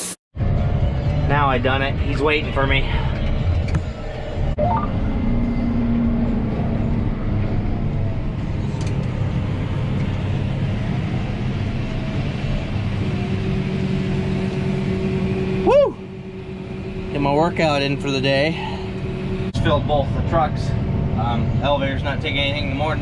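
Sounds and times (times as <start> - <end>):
steady whine: 0.0 - 23.0
tractor diesel engine drone: 0.0 - 23.0.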